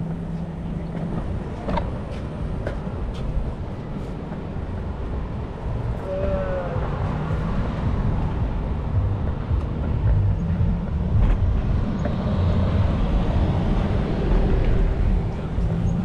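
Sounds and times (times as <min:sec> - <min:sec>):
wind and road noise rumble: 0:00.0 - 0:16.0.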